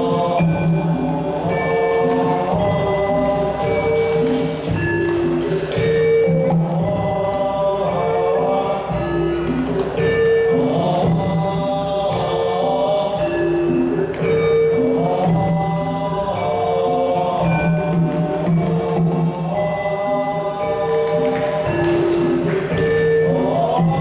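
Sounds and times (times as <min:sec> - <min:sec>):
percussion ensemble music: 0:00.0 - 0:24.0.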